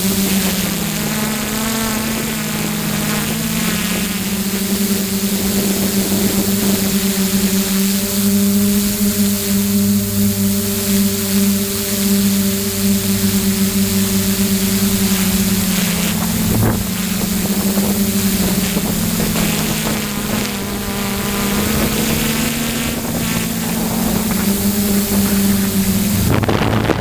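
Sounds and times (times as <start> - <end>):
drone motors and propellers humming: 0.0 - 27.0
wind noise on microphone: 0.0 - 27.0.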